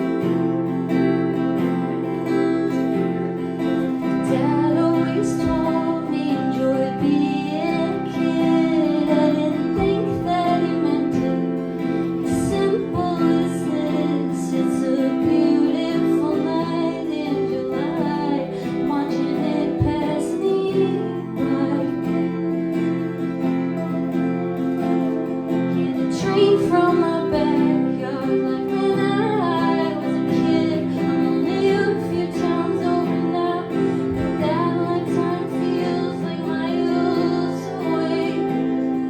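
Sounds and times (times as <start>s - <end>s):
acoustic guitar: 0.0s - 39.0s
woman singing: 0.0s - 39.0s.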